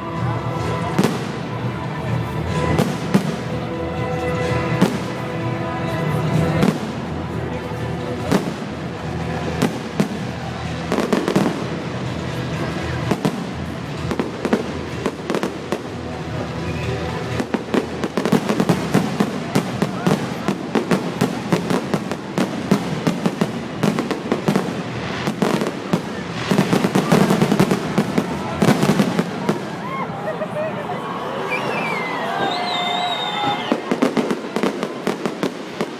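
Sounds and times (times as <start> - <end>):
fireworks bangs and crackles: 0.0 - 30.4, 31.7 - 35.9.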